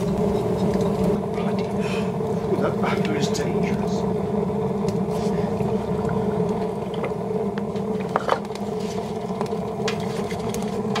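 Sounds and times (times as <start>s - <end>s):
fire crackling and popping: 0.0s - 11.0s
stove draft roaring: 0.0s - 11.0s.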